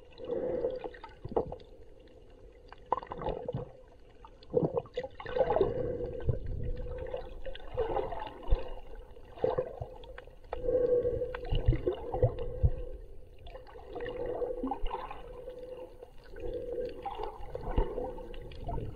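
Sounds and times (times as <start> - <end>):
muffled underwater sloshing: 0.0 - 18.9.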